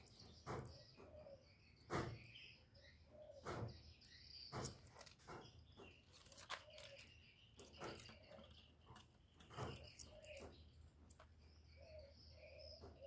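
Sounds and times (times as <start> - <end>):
faint chirping: 0.0 - 13.0.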